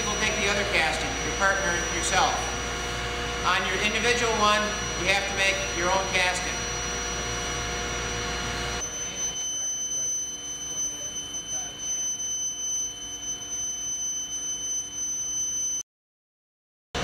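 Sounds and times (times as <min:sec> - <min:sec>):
low hum: 0:00.0 - 0:15.4
high-pitched electrical whine: 0:00.0 - 0:15.8.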